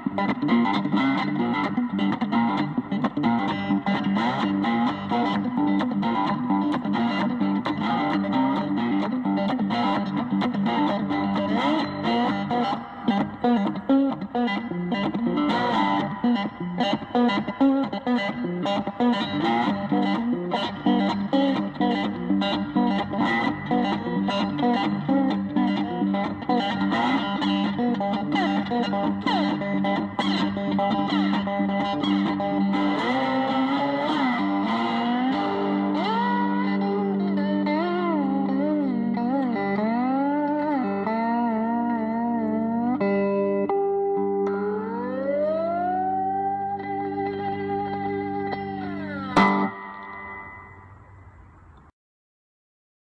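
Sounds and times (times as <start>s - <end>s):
guitar music with steady beat: 0.0s - 51.4s.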